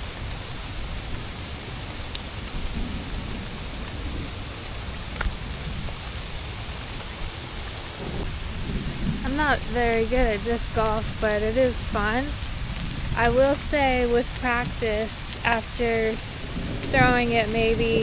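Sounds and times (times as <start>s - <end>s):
rain falling: 0.0s - 18.0s
raindrop ticks: 0.0s - 18.0s.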